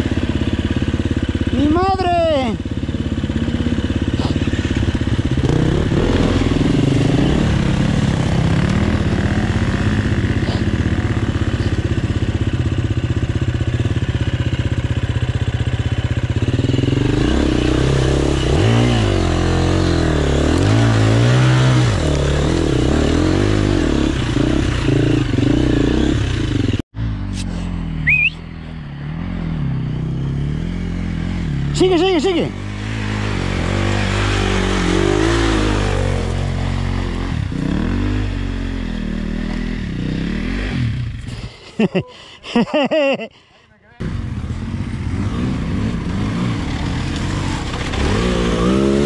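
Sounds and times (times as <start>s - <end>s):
dirt bike engine revving: 0.0s - 43.3s, 44.0s - 49.0s.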